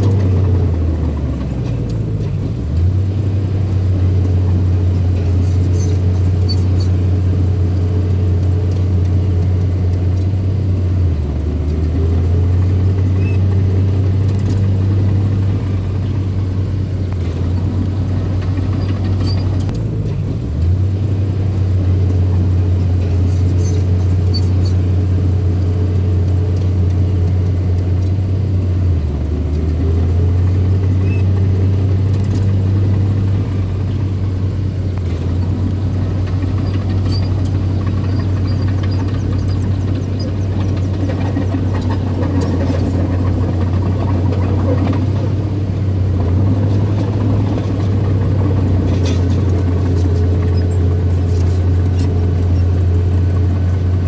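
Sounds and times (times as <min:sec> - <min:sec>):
bulldozer engine drone: 0:00.0 - 0:54.0.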